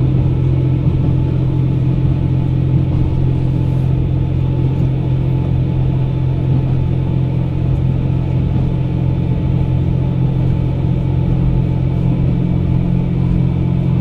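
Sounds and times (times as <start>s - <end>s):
constant hum: 0.0s - 14.0s
diesel engine drone: 0.0s - 14.0s
wheels rumbling on track: 0.0s - 14.0s.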